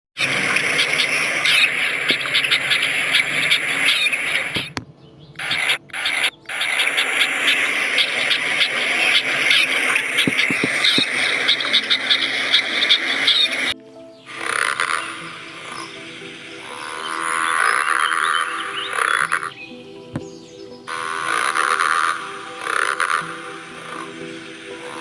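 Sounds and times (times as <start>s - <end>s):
high squeaking animal calls: 0.2s - 25.0s
noisy background: 0.2s - 25.0s.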